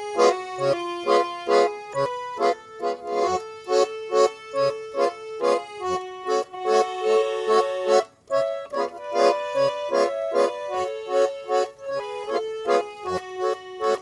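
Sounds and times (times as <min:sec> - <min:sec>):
button accordion playing a tune: 0:00.0 - 0:14.0.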